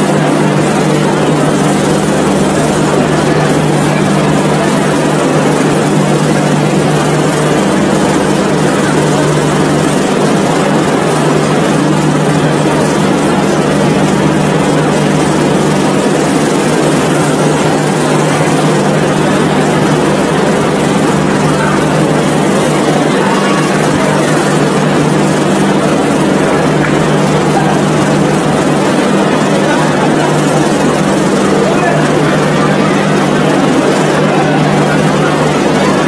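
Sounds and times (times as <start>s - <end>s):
constant low hum: 0.0s - 36.0s
train running rumble: 0.0s - 36.0s.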